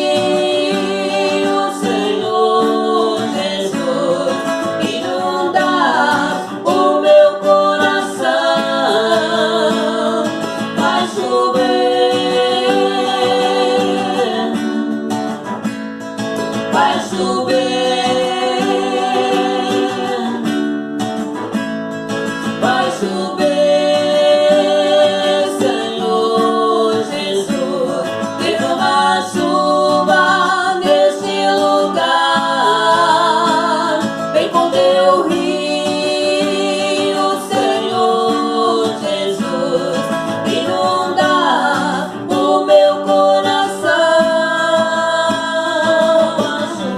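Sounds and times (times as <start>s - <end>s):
acoustic guitar: 0.0s - 46.9s
people singing with vibrato: 0.0s - 46.9s.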